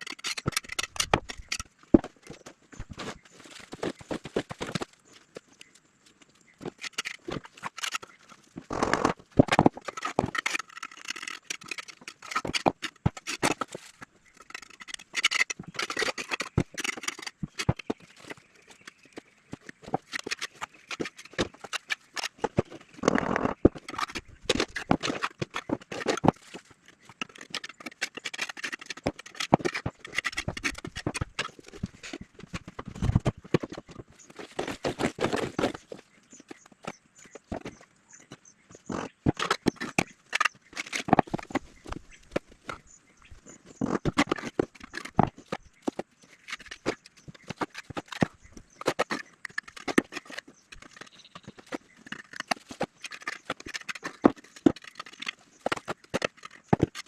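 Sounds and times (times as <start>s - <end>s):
scraping: 6.5s - 57.0s.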